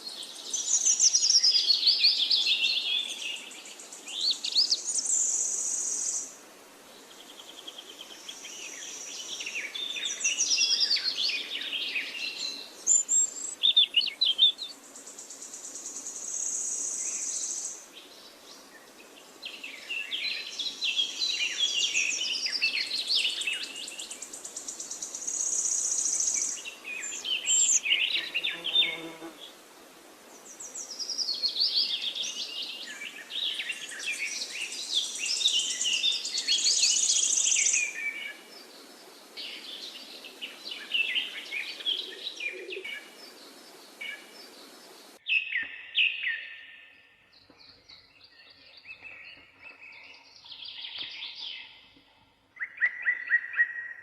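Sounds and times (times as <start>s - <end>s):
steady background hiss: 0.0s - 45.3s
songbirds chirping and singing: 7.0s - 29.6s, 30.4s - 54.0s.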